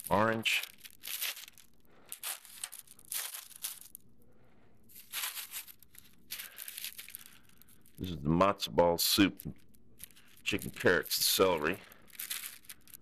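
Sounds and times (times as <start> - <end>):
plastic and foil packaging crinkling: 0.0 - 4.1, 4.9 - 8.2, 9.0 - 13.0.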